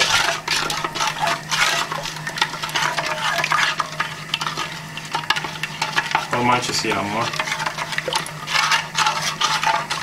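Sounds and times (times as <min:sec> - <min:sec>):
spoon scraping sugar in pot: 0:00.0 - 0:10.0
steady low hum: 0:00.0 - 0:10.0.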